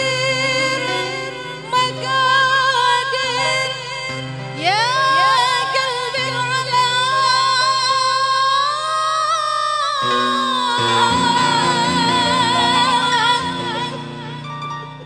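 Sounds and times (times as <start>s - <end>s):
keyboard sustained chords: 0.0s - 8.8s, 10.0s - 15.0s
woman singing: 0.0s - 15.0s.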